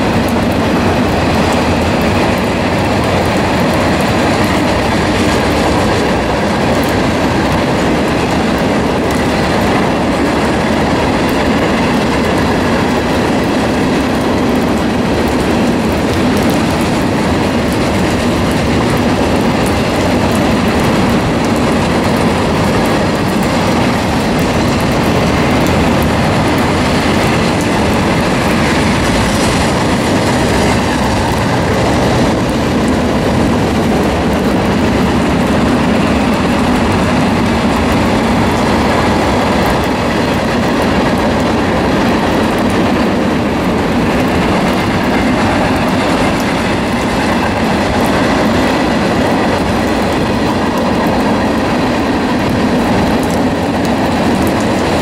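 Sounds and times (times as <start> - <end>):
train wheels rolling on rail: 0.0 - 55.0.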